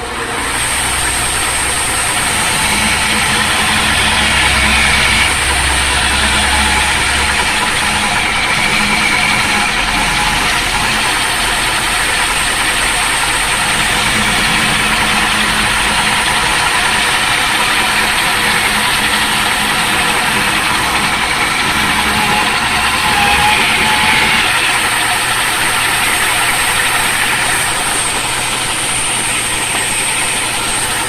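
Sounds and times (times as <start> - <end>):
machine motor running loudly: 0.0 - 31.0.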